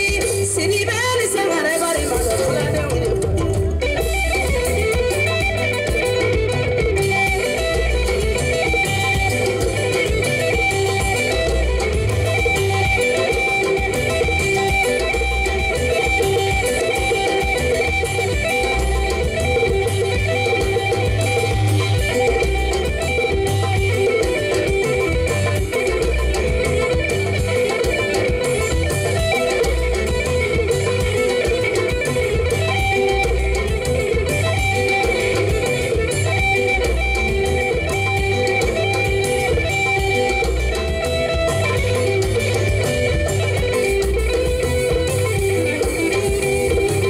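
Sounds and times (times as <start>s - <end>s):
bass guitar: 0.0s - 47.0s
electric guitar: 0.0s - 47.0s.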